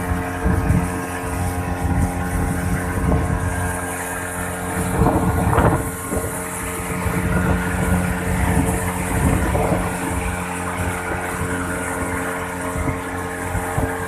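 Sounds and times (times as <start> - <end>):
motorboat engine humming: 0.0 - 14.0
water rushing along hull: 0.0 - 14.0.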